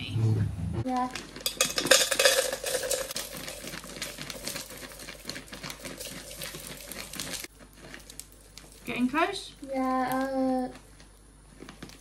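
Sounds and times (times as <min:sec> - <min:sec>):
plastic bag crinkling: 0:00.9 - 0:12.0
wax flakes pattering on metal: 0:00.9 - 0:12.0.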